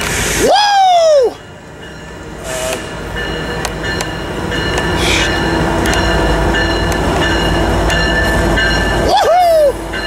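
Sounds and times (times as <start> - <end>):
diesel train low rumble: 0.0 - 10.0
train wheels clicking on track: 0.0 - 10.0.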